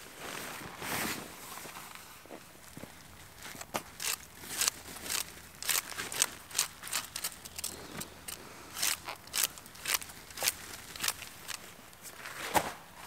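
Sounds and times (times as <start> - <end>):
camping gear crinkling rustles: 0.0 - 13.0.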